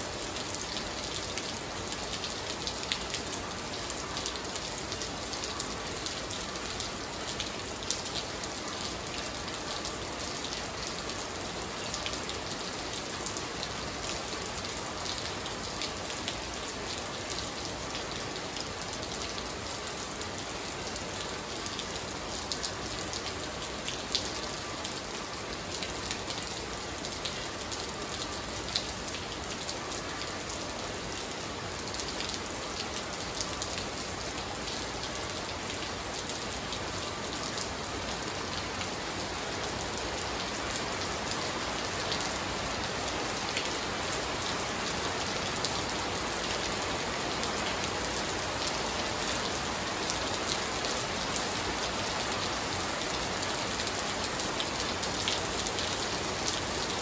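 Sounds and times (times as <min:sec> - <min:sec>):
rain pattering on tiled floor: 0:00.1 - 0:57.0.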